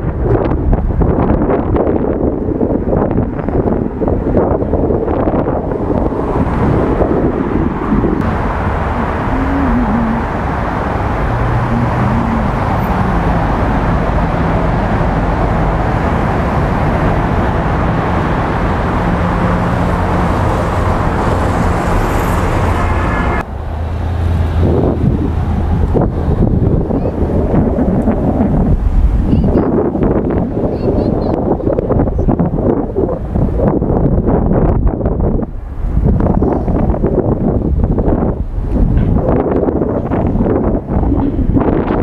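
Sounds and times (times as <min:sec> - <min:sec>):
motorcycle engine hum: 0:00.0 - 0:42.0
wind and road noise: 0:00.0 - 0:42.0.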